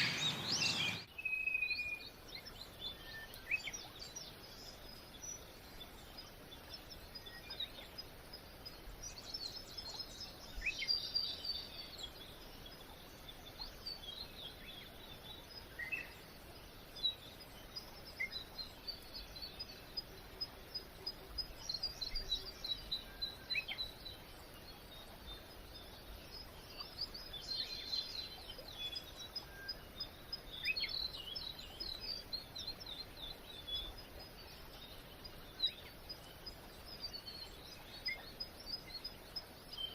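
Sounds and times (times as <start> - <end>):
birds chirping: 0.0 - 39.9
faint background noise: 0.0 - 39.9.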